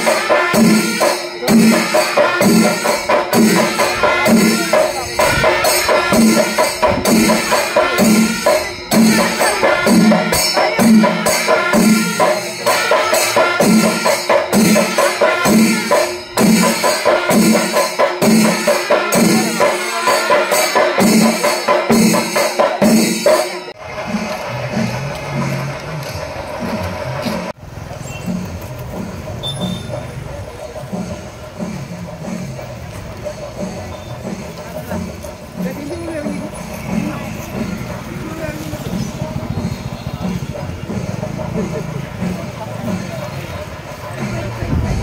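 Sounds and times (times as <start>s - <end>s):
clashing cymbals: 0.0s - 45.0s
drum strokes: 0.0s - 45.0s.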